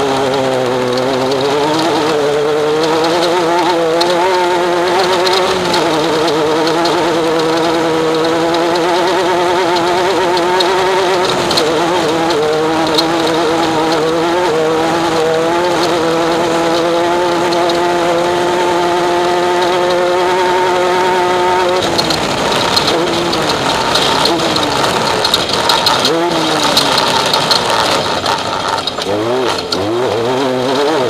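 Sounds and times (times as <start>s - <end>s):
wind noise: 0.0s - 29.8s
race vehicle engine revving: 0.0s - 31.0s
terrain noise: 0.0s - 31.0s.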